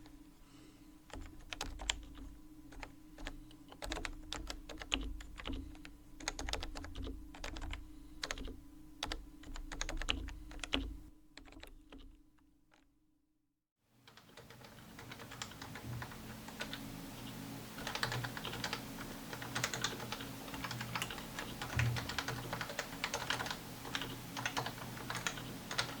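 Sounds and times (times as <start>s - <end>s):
keyboard typing: 1.1s - 12.8s, 14.1s - 26.0s.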